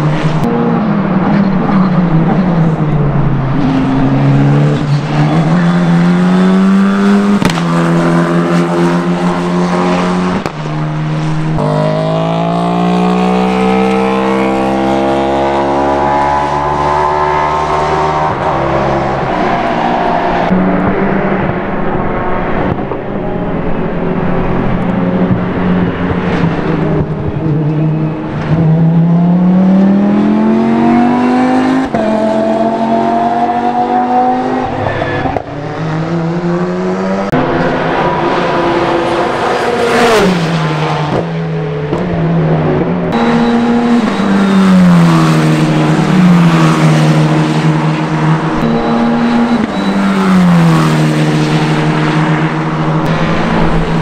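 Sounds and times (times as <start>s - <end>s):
blipped downshifts: 0.0s - 54.0s
racing car engine revving: 0.0s - 54.0s.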